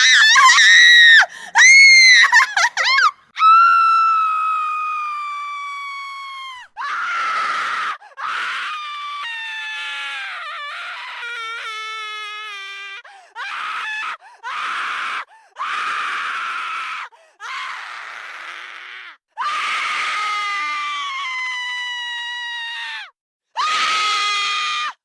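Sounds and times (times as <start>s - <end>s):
girl screaming: 0.0s - 12.8s, 17.5s - 25.0s.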